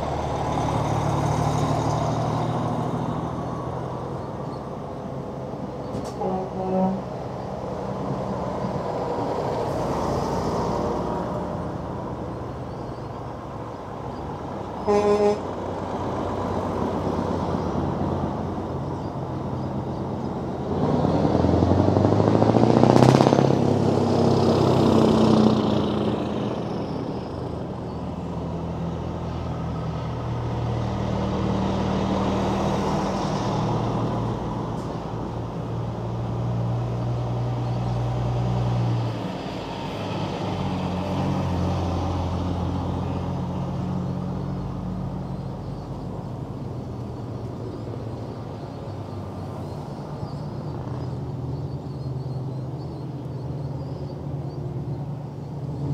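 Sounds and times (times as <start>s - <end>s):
diesel trucks passing: 0.0s - 55.9s.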